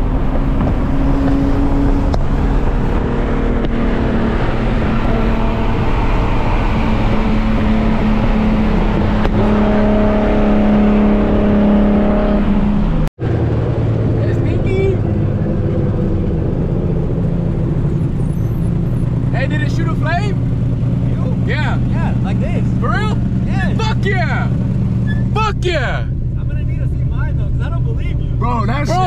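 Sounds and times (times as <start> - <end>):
car engine drone: 0.0 - 29.0
road and tyre noise: 0.0 - 29.0.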